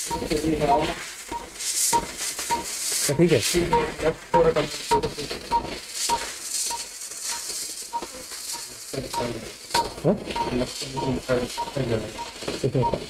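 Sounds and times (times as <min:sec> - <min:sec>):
background hiss: 0:00.0 - 0:13.0
patient monitor beeping: 0:00.0 - 0:13.0.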